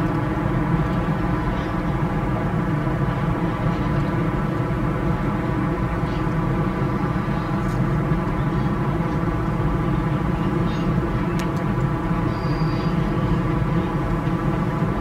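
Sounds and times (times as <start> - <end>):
droning hum: 0.0 - 15.0
train rumbling over bridge: 0.0 - 15.0.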